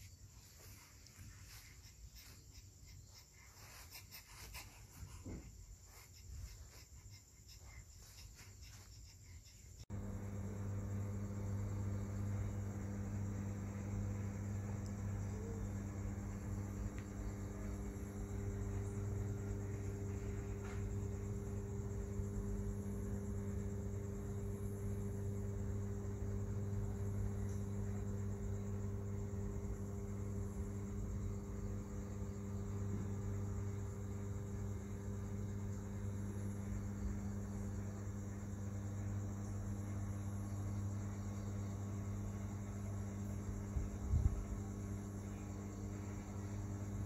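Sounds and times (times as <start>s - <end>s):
faint hiss: 0.0s - 47.0s
low electrical hum: 0.0s - 47.0s.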